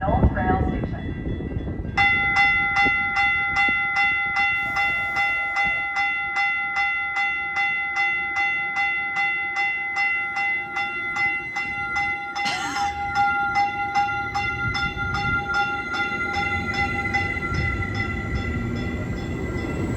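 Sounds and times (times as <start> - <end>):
railroad crossing bell ringing: 0.0 - 19.9
train rumbling: 0.0 - 19.9.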